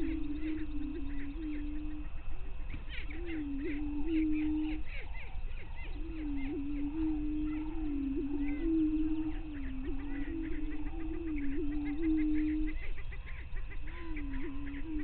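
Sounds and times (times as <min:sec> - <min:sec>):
prairie chickens booming: 0:00.0 - 0:15.0
short cackling calls: 0:00.0 - 0:15.0.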